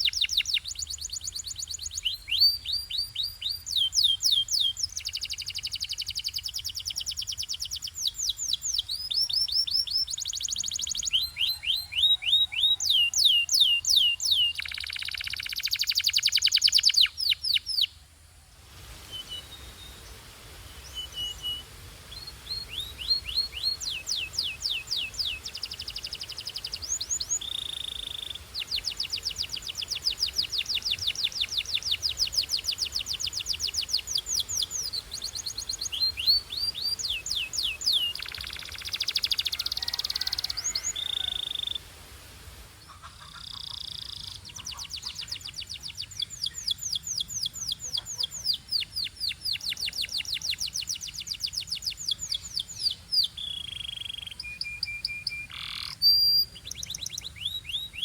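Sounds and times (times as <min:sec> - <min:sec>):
canary singing trills: 0:00.0 - 0:18.0, 0:19.1 - 0:41.8, 0:42.8 - 0:58.0.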